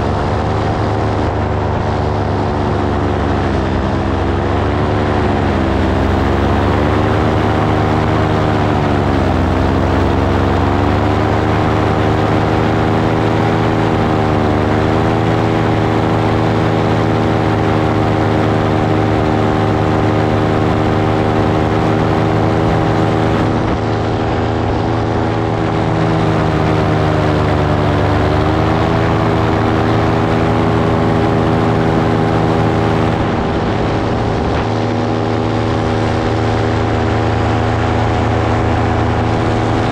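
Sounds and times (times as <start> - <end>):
light aircraft propeller engine: 0.0 - 39.9.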